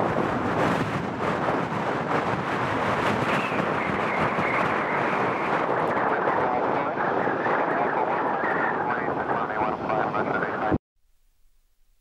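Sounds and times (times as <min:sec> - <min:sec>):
jet engines roaring: 0:00.0 - 0:10.8
wind buffeting microphone: 0:00.0 - 0:10.8.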